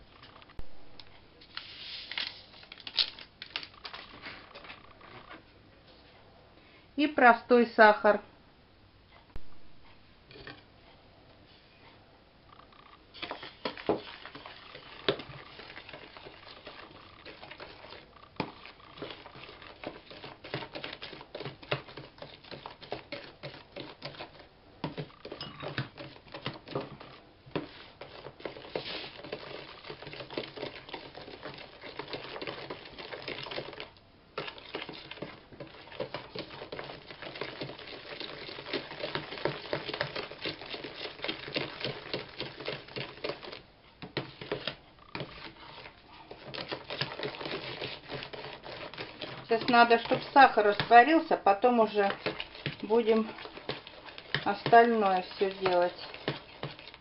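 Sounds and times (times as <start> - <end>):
spoon scraping plastic bowl: 3.5 - 5.4, 13.2 - 57.0.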